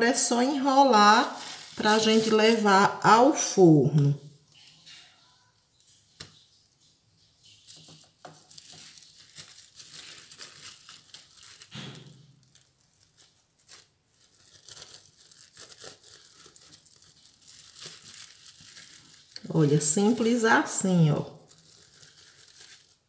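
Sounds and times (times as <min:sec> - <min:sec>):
cling film crinkling: 0:00.8 - 0:03.0, 0:04.5 - 0:23.0.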